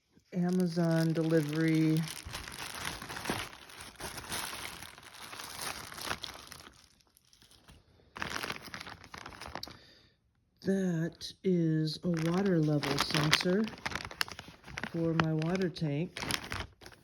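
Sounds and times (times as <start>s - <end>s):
packaging crinkling and rustling: 0.0s - 9.9s, 12.0s - 17.0s.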